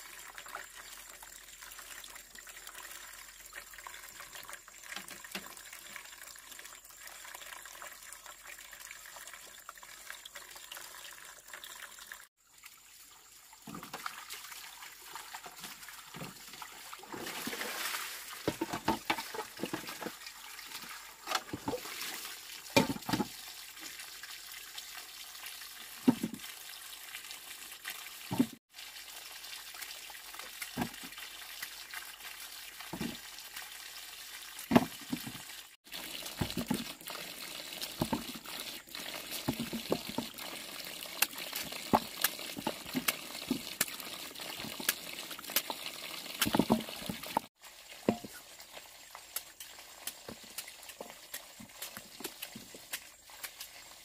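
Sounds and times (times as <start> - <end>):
running trickling water: 0.0 - 54.0.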